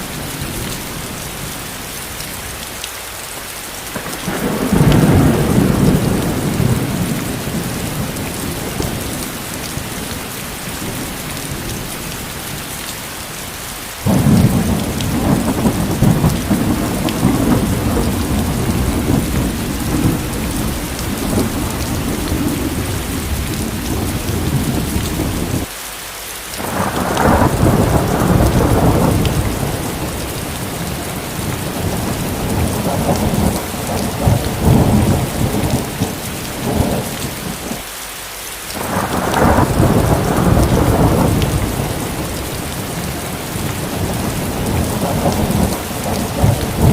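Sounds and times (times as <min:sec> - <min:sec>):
steady rain: 0:00.0 - 0:46.9
rolling thunder: 0:03.9 - 0:12.6, 0:14.0 - 0:25.7, 0:26.6 - 0:37.8, 0:38.8 - 0:46.9.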